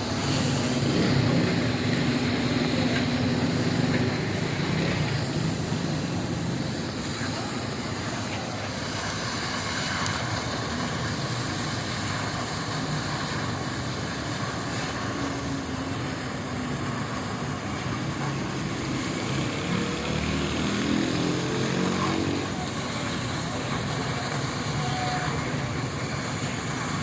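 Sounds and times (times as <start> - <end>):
cutting torch flame roaring hiss: 0.0 - 27.0.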